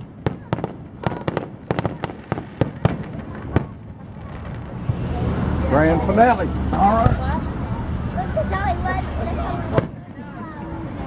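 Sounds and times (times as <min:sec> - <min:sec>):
fireworks cracking and banging: 0:00.0 - 0:11.0.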